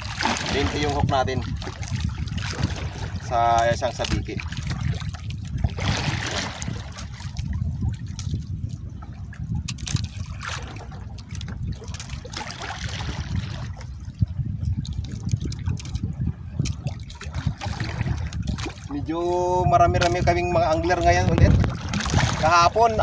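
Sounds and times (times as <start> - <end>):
water lapping against boat hull: 0.0 - 23.0
wind rumble on microphone: 0.0 - 23.0.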